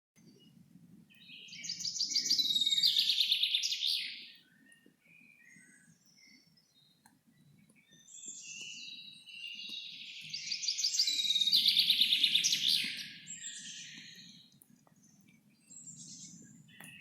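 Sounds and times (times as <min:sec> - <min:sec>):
songbird trilling song: 0:00.2 - 0:17.0.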